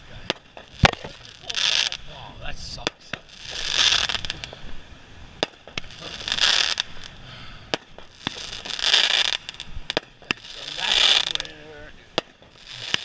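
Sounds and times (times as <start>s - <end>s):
fireworks pops and cracks: 0.0s - 4.8s, 5.4s - 13.0s
fireworks hissing rush: 0.0s - 13.0s.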